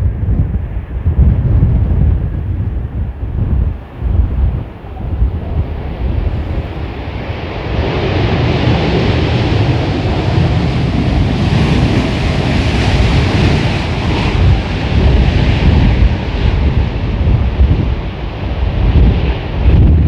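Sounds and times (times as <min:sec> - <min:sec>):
storm gusts buffeting microphone: 0:00.0 - 0:20.0.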